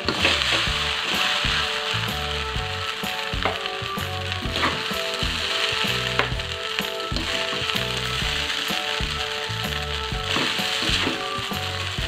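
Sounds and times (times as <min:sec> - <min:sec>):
light background music: 0:00.0 - 0:12.0
rice sizzling in a wok: 0:00.0 - 0:12.0.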